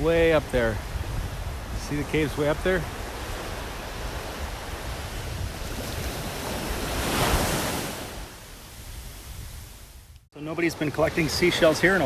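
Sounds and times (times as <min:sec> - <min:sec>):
wind rumbling on microphone: 0:00.0 - 0:10.3
waves washing onto beach: 0:00.0 - 0:12.0.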